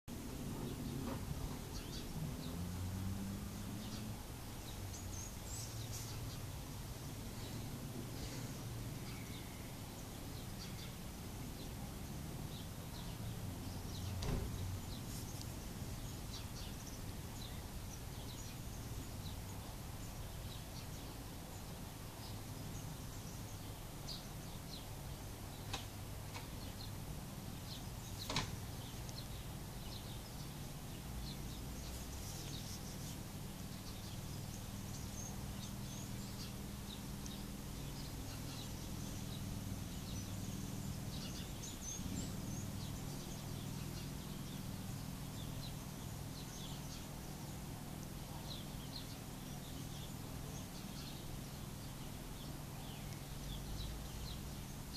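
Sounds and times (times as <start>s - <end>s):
steady low hum: 0.1s - 54.9s.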